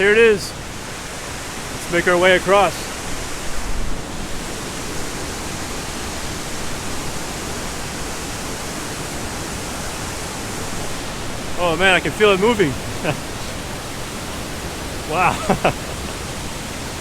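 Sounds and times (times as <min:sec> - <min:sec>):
waterfall and river rushing: 0:00.0 - 0:17.0.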